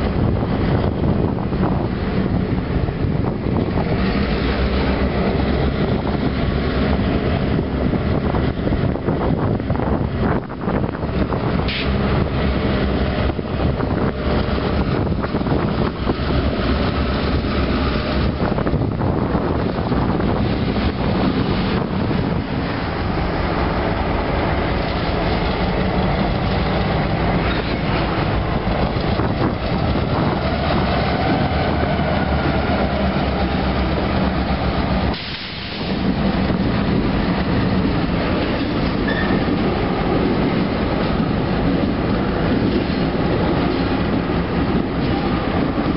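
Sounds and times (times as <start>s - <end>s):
diesel locomotive engines droning: 0.0s - 45.9s
train wheels rolling on rails: 0.0s - 45.9s.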